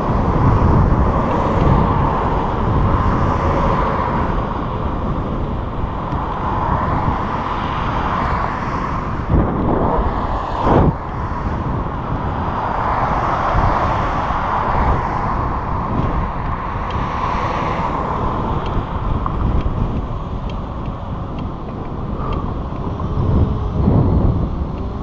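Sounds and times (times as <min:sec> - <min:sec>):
bicycle rolling on trail: 0:00.0 - 0:25.0
wind buffeting microphone: 0:00.0 - 0:25.0.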